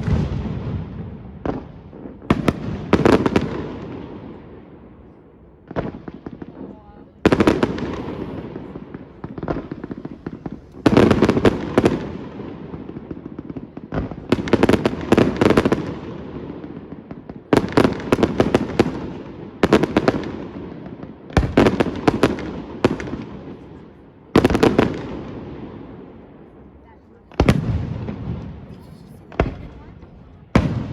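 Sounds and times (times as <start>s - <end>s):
fireworks bursting and crackling: 0.0s - 30.9s.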